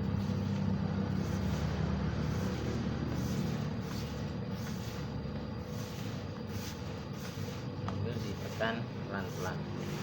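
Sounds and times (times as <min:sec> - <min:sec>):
faint constant hum: 0:00.0 - 0:10.0.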